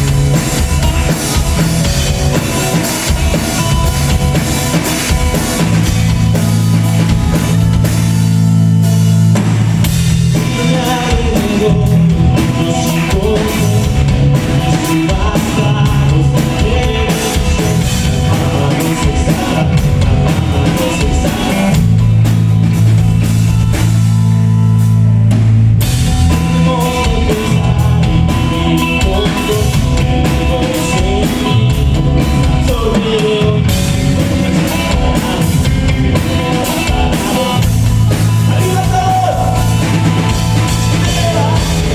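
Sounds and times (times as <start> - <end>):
heavy bass line: 0.0 - 41.9
loud music with drums: 0.0 - 41.9.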